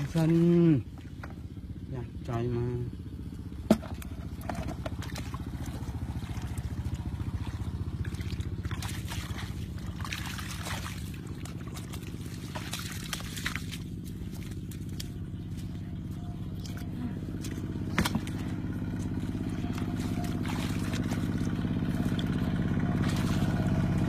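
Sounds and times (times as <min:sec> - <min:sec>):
small engine running: 0:00.0 - 0:24.0
water sloshing and splashing: 0:00.0 - 0:24.0.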